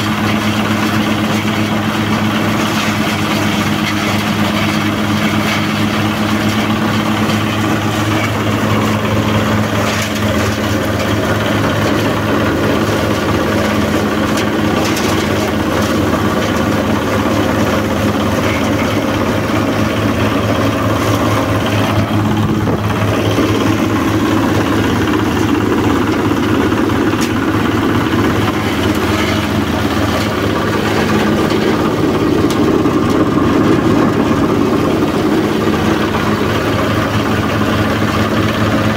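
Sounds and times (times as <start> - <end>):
diesel engine hum: 0.0 - 38.9
shredder whirring: 0.0 - 38.9.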